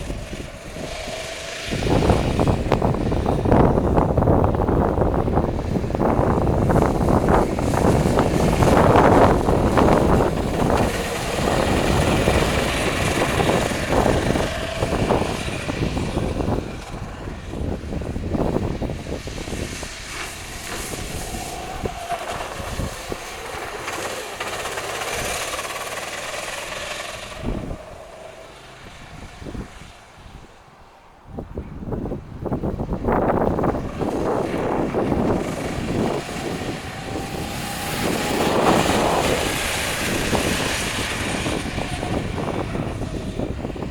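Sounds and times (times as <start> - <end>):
kart engine running: 0.0 - 43.9.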